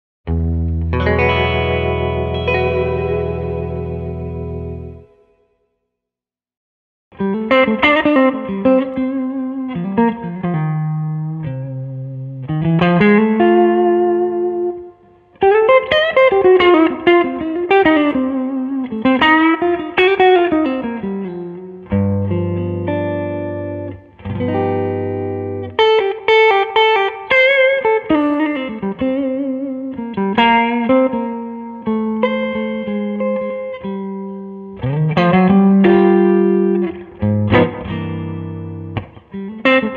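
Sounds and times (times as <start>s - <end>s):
electric guitar blues lead: 0.3s - 5.4s, 7.1s - 39.9s.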